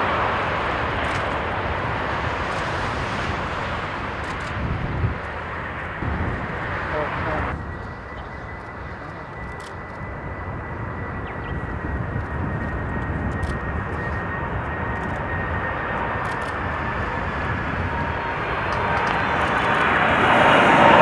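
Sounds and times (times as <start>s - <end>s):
high jet whine: 0.0s - 21.0s
jet engine approaching: 0.0s - 21.0s
lower jet whine: 0.0s - 21.0s.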